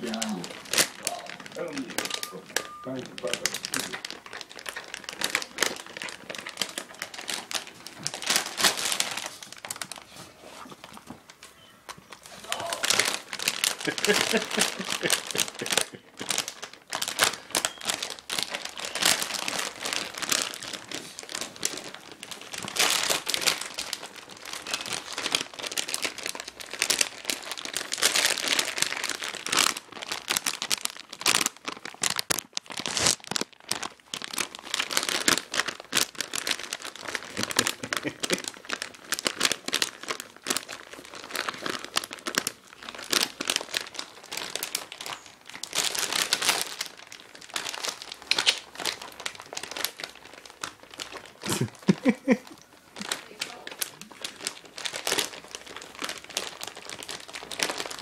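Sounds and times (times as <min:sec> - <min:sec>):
chip bag crinkling: 0:00.0 - 0:58.0.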